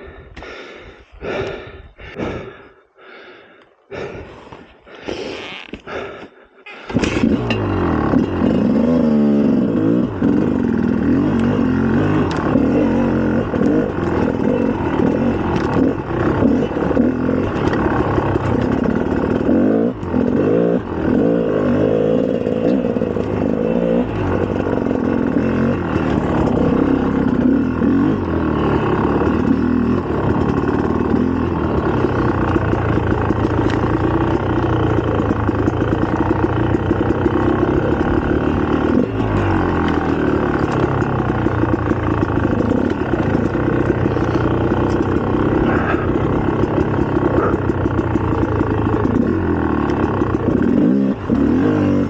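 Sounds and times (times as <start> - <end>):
two-stroke motorcycle engine revving: 5.9 - 52.0.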